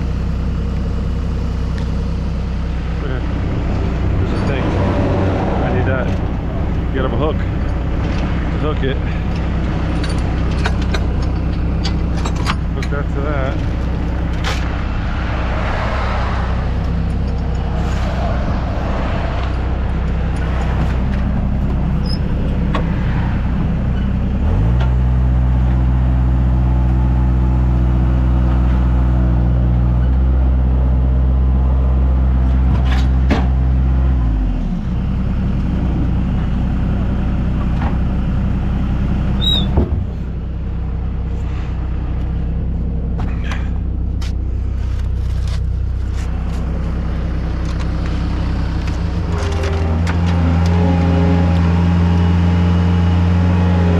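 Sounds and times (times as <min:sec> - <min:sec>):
heavy engine idling and revving: 0:00.0 - 0:53.9.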